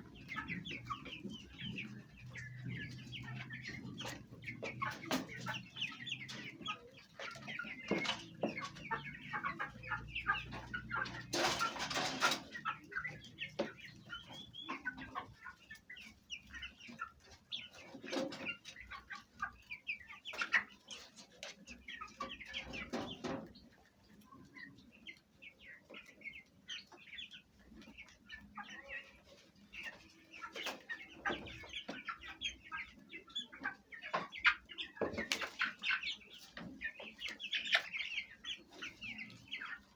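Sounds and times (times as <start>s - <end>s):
chicks chirping: 0.0s - 39.9s
hens clucking: 0.0s - 39.9s.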